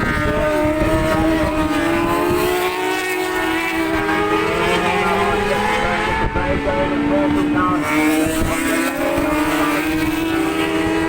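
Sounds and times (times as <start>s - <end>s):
racing motorcycle engines: 0.0s - 11.0s
wind rumble on microphone: 0.0s - 11.0s.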